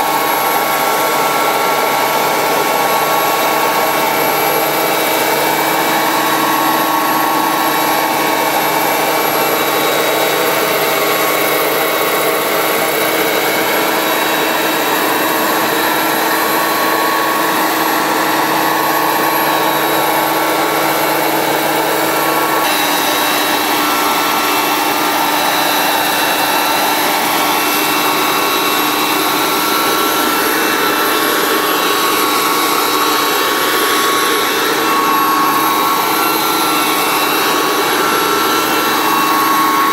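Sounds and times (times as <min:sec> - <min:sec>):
model helicopter turbine whine: 0:00.0 - 0:39.9.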